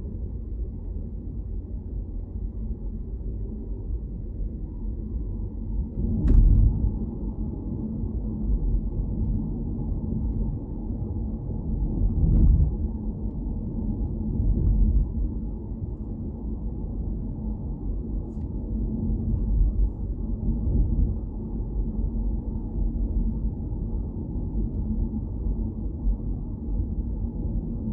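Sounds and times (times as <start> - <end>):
car road and engine rumble: 0.0 - 27.9.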